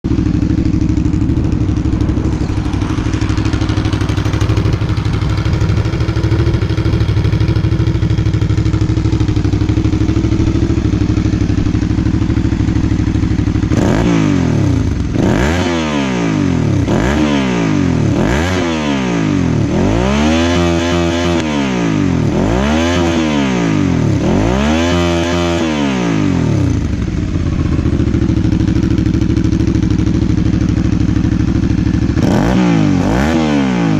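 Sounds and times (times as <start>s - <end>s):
motorcycle engine idling: 0.0s - 33.9s
engine revving: 0.1s - 29.3s, 31.8s - 33.9s.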